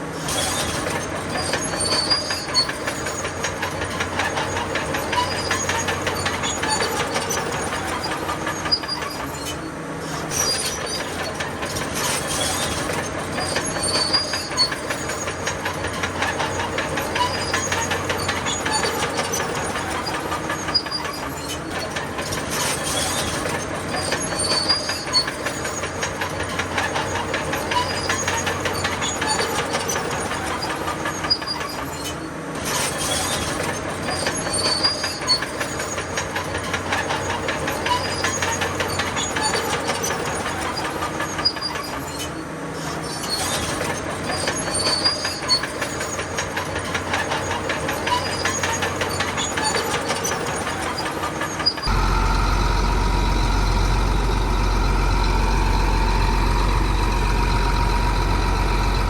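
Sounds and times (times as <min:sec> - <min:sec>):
bulldozer engine droning: 0:00.0 - 0:59.0
bulldozer tracks clanking: 0:00.0 - 0:59.0.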